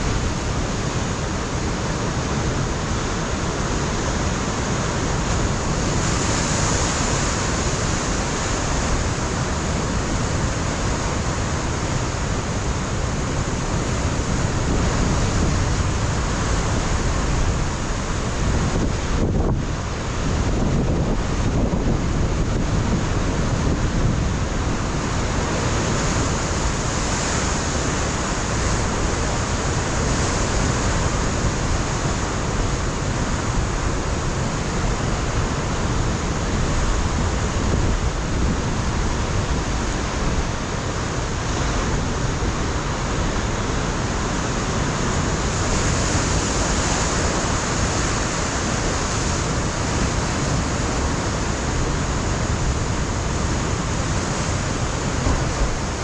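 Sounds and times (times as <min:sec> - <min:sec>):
ocean surf crashing on rocks: 0:00.0 - 0:56.0
wind buffeting microphone: 0:03.7 - 0:56.0.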